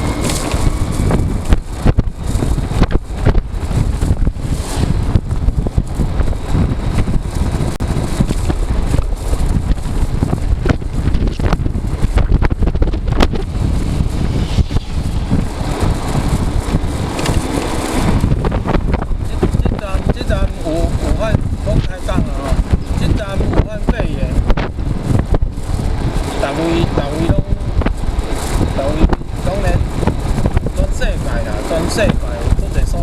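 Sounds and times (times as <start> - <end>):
road and tyre noise: 0.0 - 33.0
wind buffeting microphone: 0.0 - 33.0.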